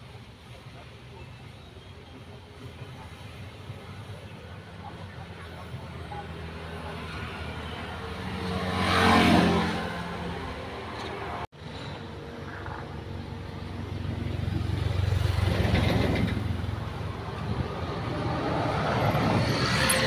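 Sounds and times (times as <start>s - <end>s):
traffic engine hum: 0.0s - 20.0s
vehicles passing: 0.0s - 20.0s.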